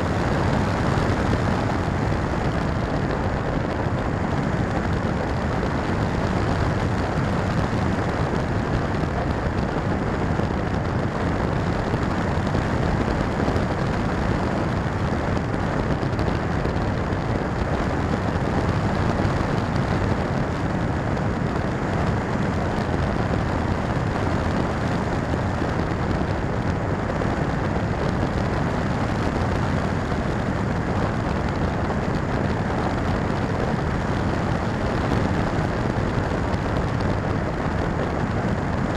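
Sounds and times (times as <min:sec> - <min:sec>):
rush of airflow: 0:00.0 - 0:38.9.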